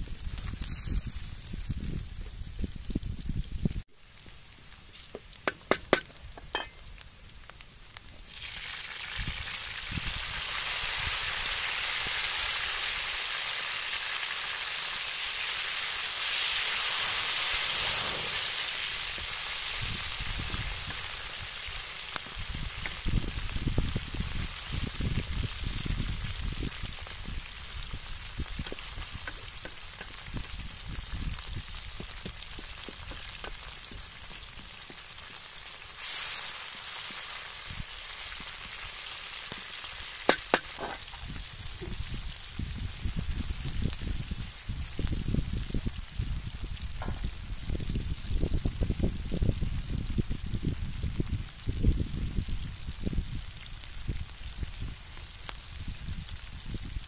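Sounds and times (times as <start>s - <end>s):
vegetables sizzling in metal pan: 4.8s - 7.0s, 8.0s - 56.8s.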